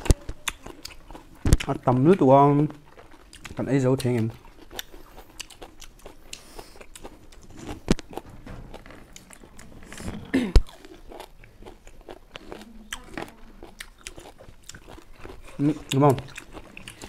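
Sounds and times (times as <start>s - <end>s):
chewing lemon slices: 0.0s - 17.0s.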